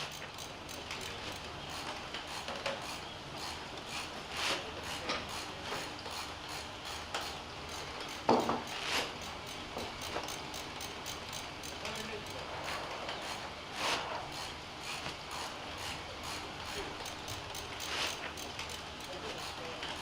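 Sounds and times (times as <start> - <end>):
mechanical clicking and rattling: 0.0 - 4.1, 4.9 - 13.6, 14.3 - 20.0.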